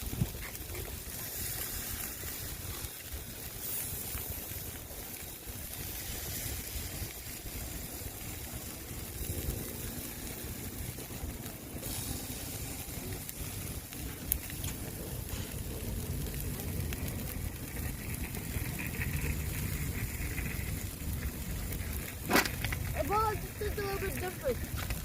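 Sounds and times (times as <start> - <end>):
wind buffeting the microphone: 0.0 - 25.0.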